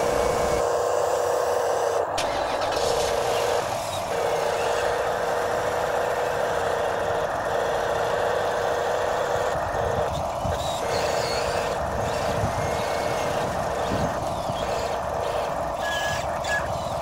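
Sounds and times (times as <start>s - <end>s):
toy excavators mechanical whirring: 0.0s - 17.0s.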